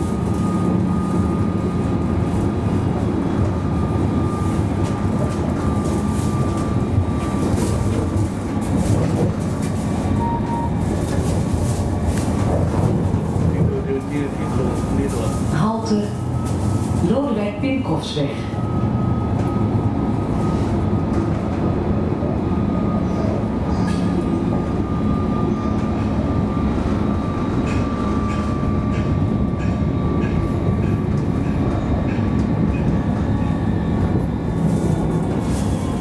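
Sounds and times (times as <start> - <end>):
tram wheels rumbling on rails: 0.0 - 36.0.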